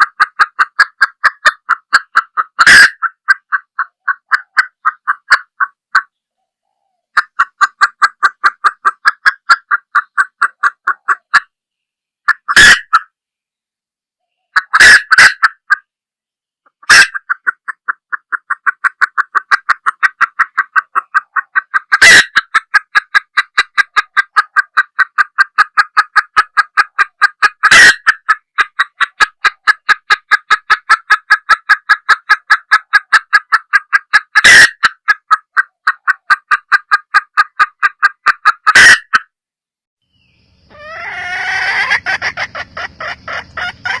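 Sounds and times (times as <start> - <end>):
hen clucking: 0.0 - 11.6, 12.2 - 13.2, 14.2 - 15.9, 16.7 - 39.3, 40.5 - 44.0.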